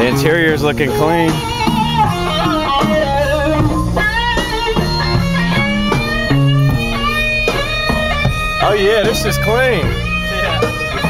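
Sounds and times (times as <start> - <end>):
guitar music with bass on car stereo: 0.0 - 11.0.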